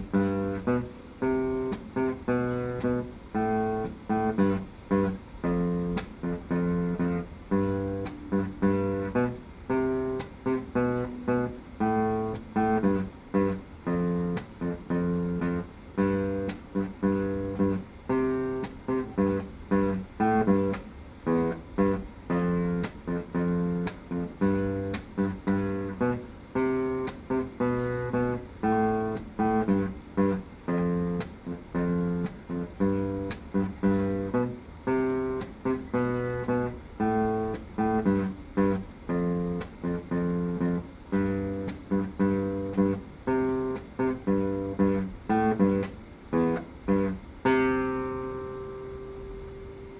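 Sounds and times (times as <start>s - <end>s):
acoustic guitar strumming chords: 0.0s - 49.9s.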